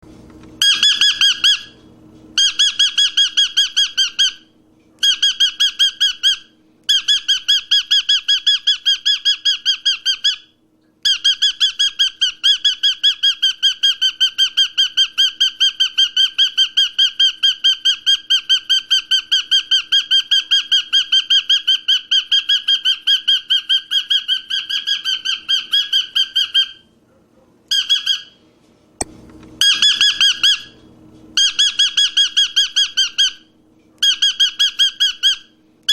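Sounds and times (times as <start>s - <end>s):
cockatiel chirping: 0.6s - 1.8s, 2.4s - 26.9s, 27.7s - 28.4s, 29.6s - 30.8s, 31.4s - 35.9s.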